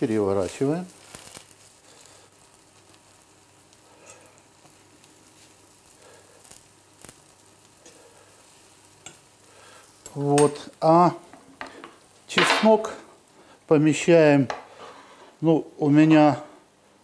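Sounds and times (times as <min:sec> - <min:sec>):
bread sizzling in oil: 0:00.0 - 0:15.6.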